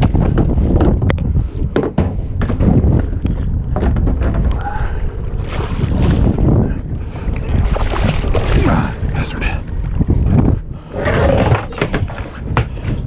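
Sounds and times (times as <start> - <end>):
boat engine low rumble: 0.0 - 12.8
wind buffeting microphone: 0.0 - 13.0.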